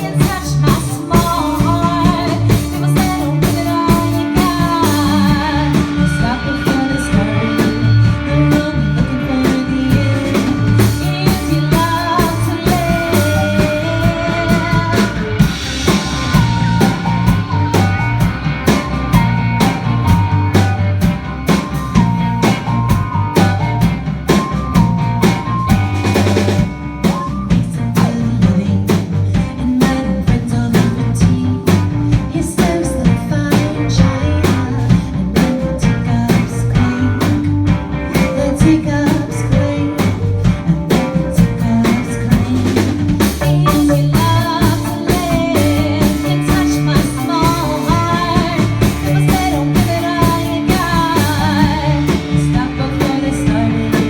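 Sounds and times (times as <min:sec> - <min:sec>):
melodic line with bending pitch: 0:00.0 - 0:28.9, 0:38.4 - 0:54.0
rock band playing live: 0:00.0 - 0:54.0.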